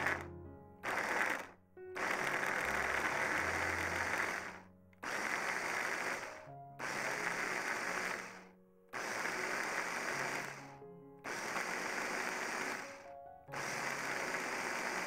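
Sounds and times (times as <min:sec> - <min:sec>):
working cookie dough by hand: 0:00.0 - 0:00.2, 0:00.8 - 0:15.0
soft background music: 0:00.0 - 0:00.8, 0:01.7 - 0:15.0.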